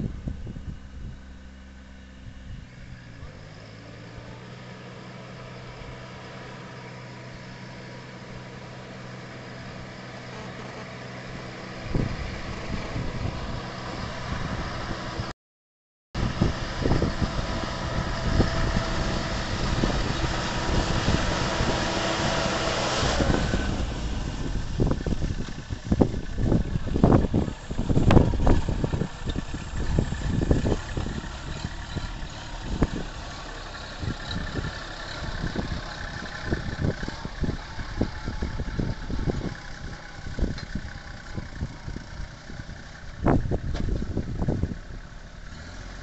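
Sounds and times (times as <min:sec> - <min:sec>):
tractor diesel engine hum: 0:00.0 - 0:15.3, 0:16.2 - 0:46.0.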